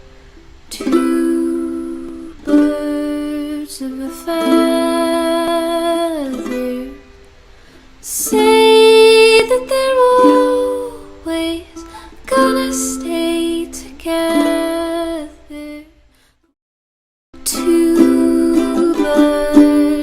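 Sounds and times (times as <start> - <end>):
person singing slow melody: 0.0 - 7.3, 8.0 - 16.1, 17.4 - 20.0
plucked string accompaniment: 0.0 - 15.4, 17.4 - 20.0.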